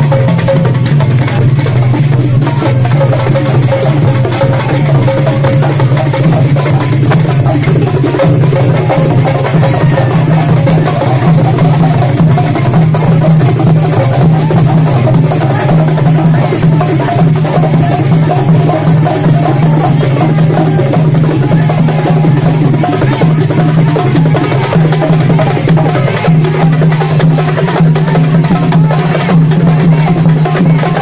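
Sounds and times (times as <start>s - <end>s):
loud drum and percussion music: 0.0s - 31.0s.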